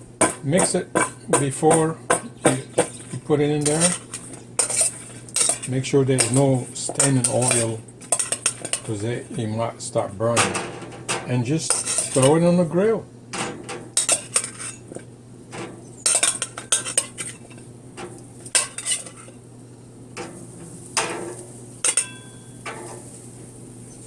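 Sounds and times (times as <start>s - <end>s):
metal clinks on grill grate: 0.2s - 9.1s, 10.3s - 19.4s, 20.2s - 23.3s.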